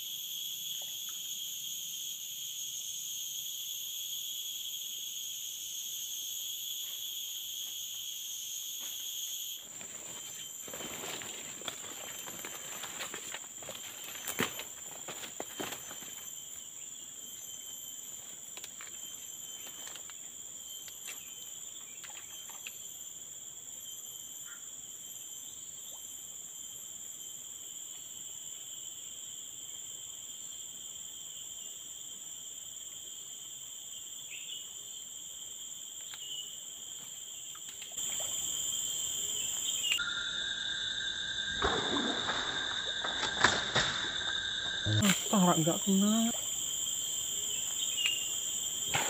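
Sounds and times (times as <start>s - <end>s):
forest insects ringing: 0.0s - 49.0s.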